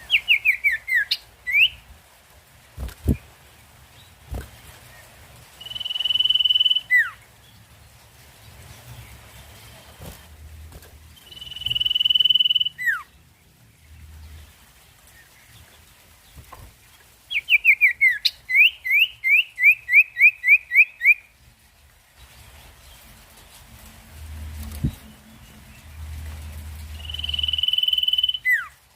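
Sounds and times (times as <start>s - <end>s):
songbird singing: 0.0s - 2.0s, 3.9s - 21.4s, 22.1s - 28.9s.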